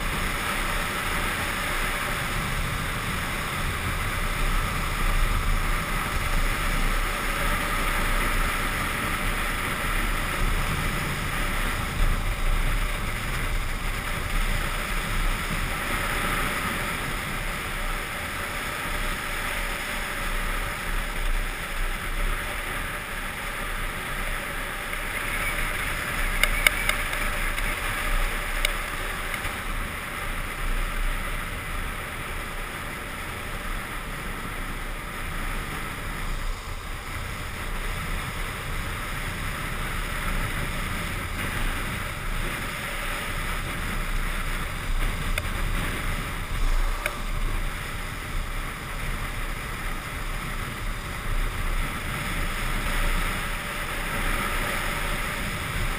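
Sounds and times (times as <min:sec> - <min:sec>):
longboard wheels rolling on asphalt: 0:00.0 - 0:55.9
wind rushing over microphone: 0:00.0 - 0:55.9.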